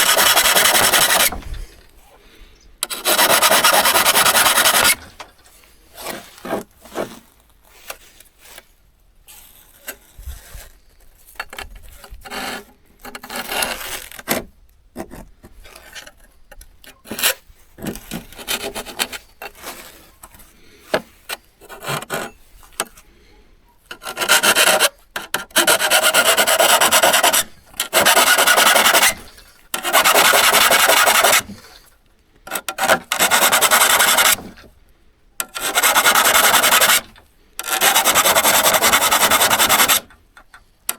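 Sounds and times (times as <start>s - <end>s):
scraping on saw blade: 0.0s - 1.8s, 2.8s - 8.7s, 9.3s - 14.4s, 17.0s - 34.7s, 35.4s - 40.2s.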